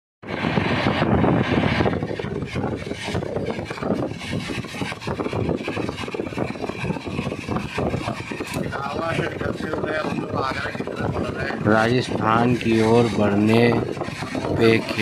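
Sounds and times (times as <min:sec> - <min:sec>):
train rumbling and clattering: 0:00.2 - 0:15.0.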